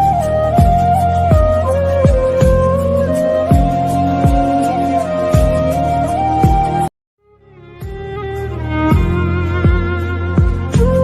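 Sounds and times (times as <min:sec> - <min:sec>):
flute-like melody over slow beat: 0:00.0 - 0:06.9, 0:07.6 - 0:11.0
background music: 0:00.0 - 0:11.0.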